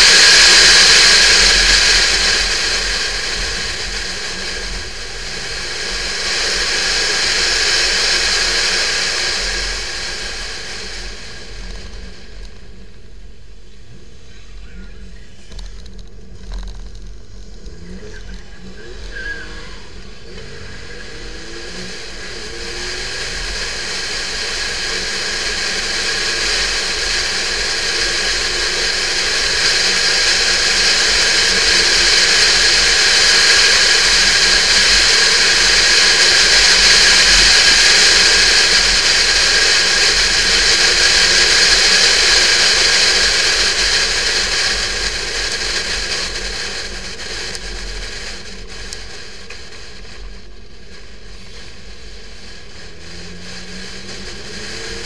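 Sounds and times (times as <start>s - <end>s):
car engine running: 0.0s - 55.0s
wind and road noise: 0.0s - 55.0s.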